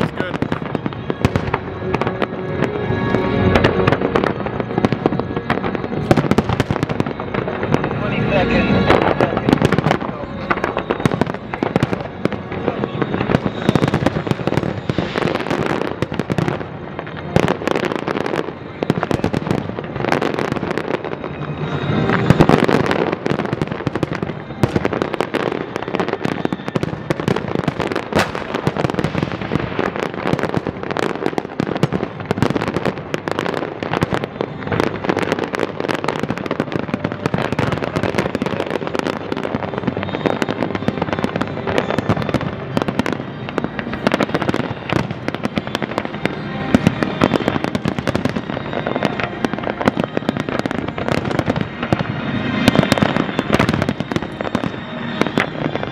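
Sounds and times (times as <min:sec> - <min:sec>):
firework shell bursts and crackle: 0:00.0 - 0:55.9.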